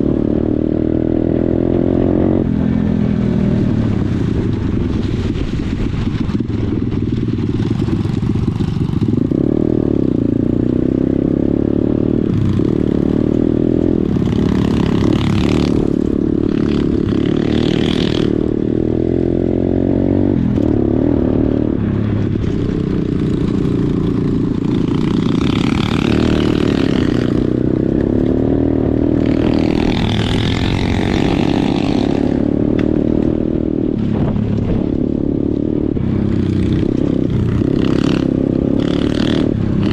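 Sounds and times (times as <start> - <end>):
pit bike engine running: 0.0 - 39.9.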